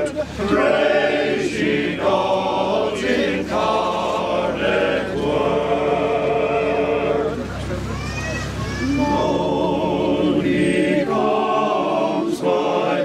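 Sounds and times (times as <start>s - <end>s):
group singing a carol: 0.0s - 7.5s, 9.0s - 13.0s.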